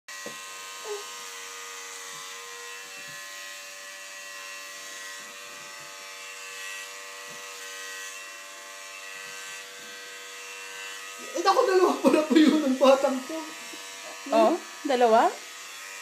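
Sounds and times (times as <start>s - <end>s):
electric hair clippers buzzing: 0.1s - 16.0s.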